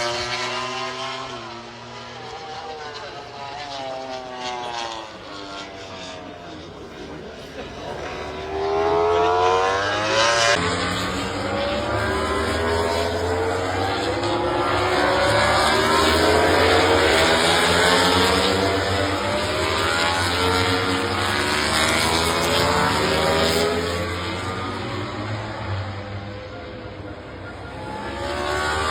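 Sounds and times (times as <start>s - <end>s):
racing motorcycle engines accelerating: 0.0s - 28.9s.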